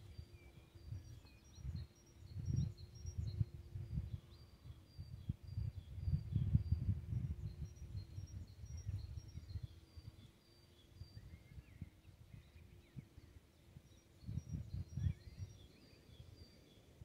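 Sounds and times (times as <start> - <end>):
songbirds singing: 0.0 - 17.0
wind rumble on microphone: 0.0 - 17.0.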